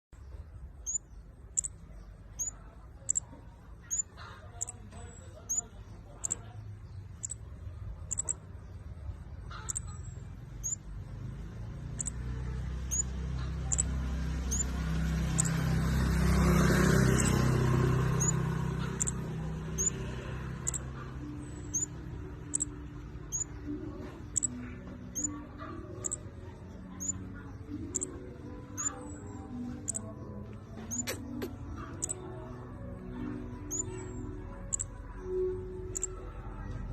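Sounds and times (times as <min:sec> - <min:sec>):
high-pitched bird chirps: 0:00.2 - 0:11.1, 0:11.8 - 0:32.6, 0:33.2 - 0:36.4.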